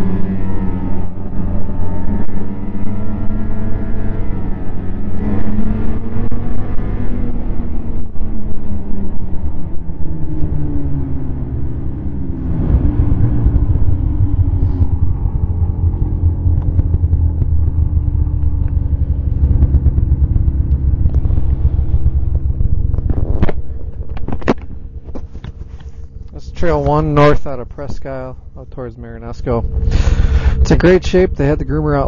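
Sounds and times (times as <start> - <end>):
snowmobile engine running: 0.0 - 32.0.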